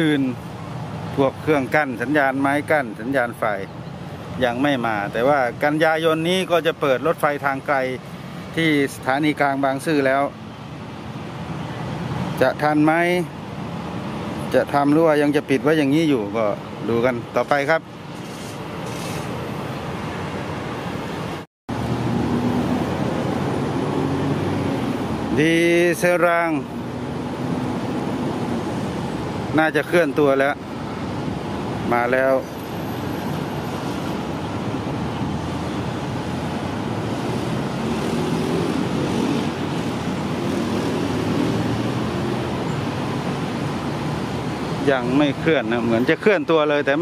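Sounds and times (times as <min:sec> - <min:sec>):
traffic noise: 0:00.0 - 0:47.0
wind: 0:00.0 - 0:47.0.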